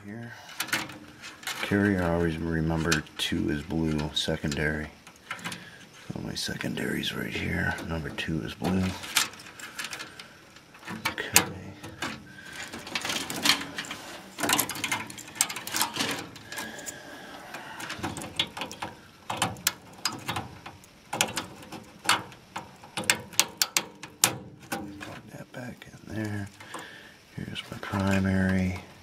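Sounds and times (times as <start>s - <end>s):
wire connectors clicking and snapping: 0.6s - 25.3s, 26.0s - 29.0s.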